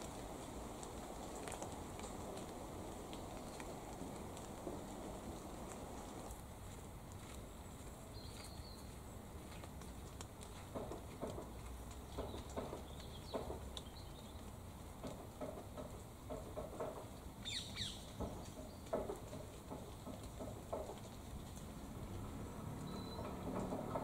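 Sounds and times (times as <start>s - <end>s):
light rain dripping on leaves: 0.0s - 24.0s.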